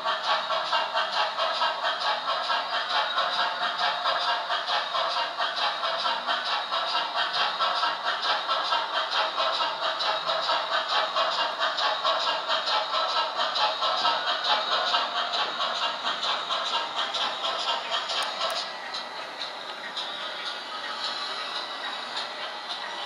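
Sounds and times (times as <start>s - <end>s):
model steam locomotive chuffs: 0.0s - 23.0s.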